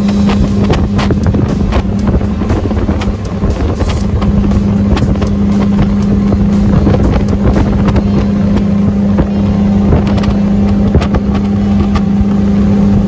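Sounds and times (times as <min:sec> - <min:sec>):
motorboat engine drone: 0:00.0 - 0:13.0
rushing water: 0:00.0 - 0:13.0
wind buffeting microphone: 0:00.0 - 0:13.0.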